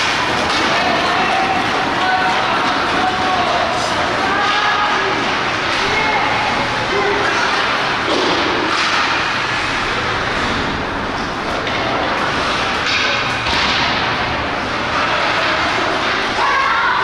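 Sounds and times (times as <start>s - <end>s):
hockey sticks and puck cracking: 0.0s - 16.8s.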